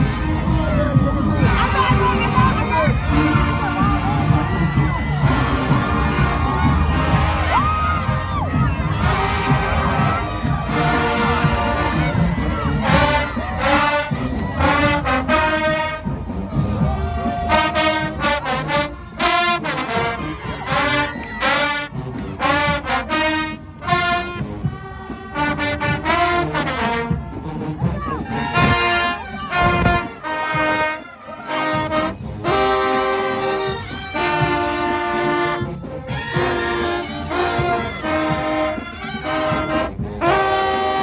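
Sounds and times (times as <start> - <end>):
drums: 0.0 - 41.0
marching band brass playing: 0.0 - 41.0.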